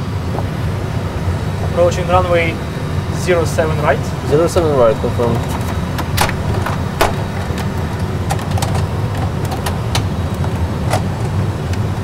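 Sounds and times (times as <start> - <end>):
jet engine low rumble: 0.0 - 12.0.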